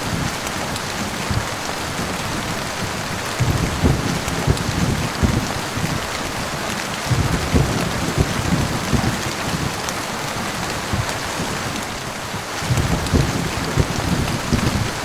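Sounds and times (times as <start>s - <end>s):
heavy rain: 0.0s - 15.0s
low rumbling thunder: 0.0s - 15.0s.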